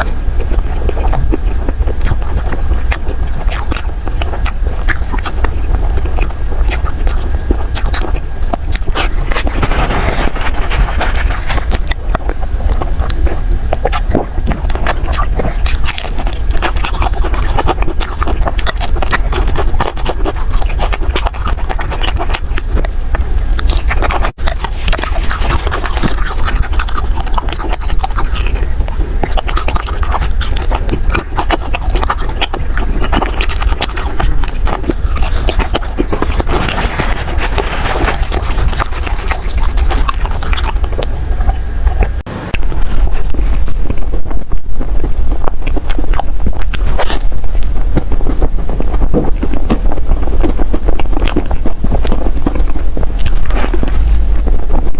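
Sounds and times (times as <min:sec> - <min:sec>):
chewing with wet clicks: 0:00.0 - 0:54.9
steady low rumble: 0:00.0 - 0:54.9.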